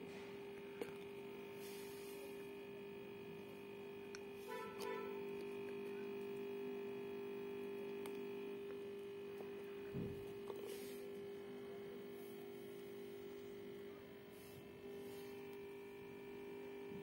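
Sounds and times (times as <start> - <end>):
steady even hum: 0.0 - 17.0.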